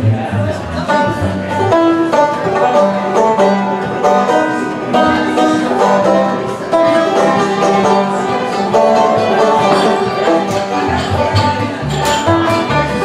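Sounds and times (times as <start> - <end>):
banjo picking: 0.0 - 13.0
fiddle: 0.0 - 13.0
upright bass: 0.0 - 13.0.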